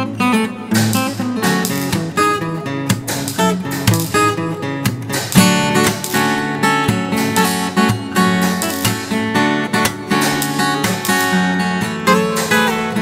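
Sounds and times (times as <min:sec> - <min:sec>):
solo acoustic guitar run: 0:00.0 - 0:13.0.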